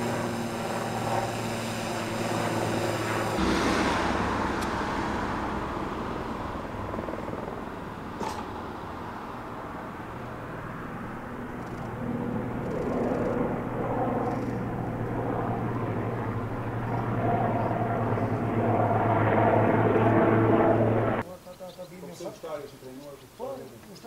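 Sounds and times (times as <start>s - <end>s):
helicopter engine and rotors: 0.0s - 21.3s.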